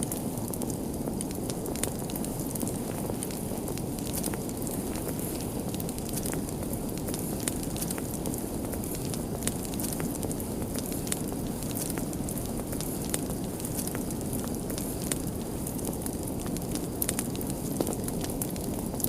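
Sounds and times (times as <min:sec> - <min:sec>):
low rush of burning: 0:00.0 - 0:19.0
wood fire crackling: 0:00.0 - 0:19.0.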